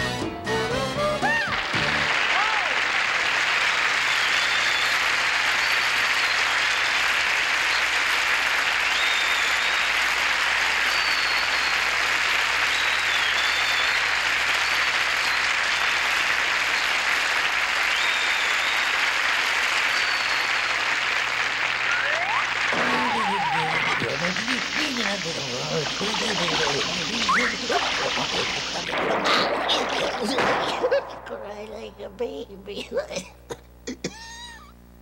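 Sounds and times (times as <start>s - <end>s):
audience applauding: 0.9s - 31.2s.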